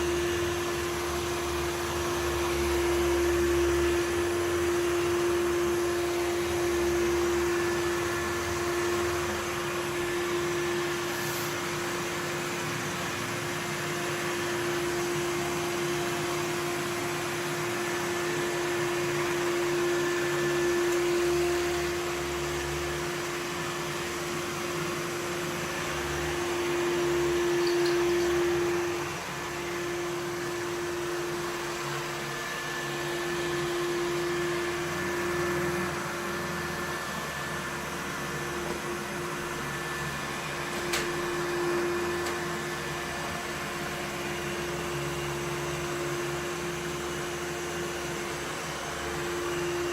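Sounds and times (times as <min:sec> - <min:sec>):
robot vacuum running: 0:00.0 - 0:49.9.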